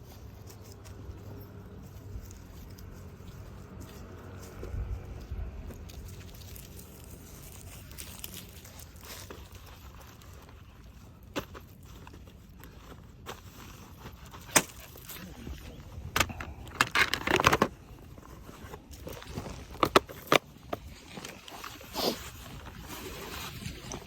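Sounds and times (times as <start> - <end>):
scraping and rustling: 0.0 - 24.0.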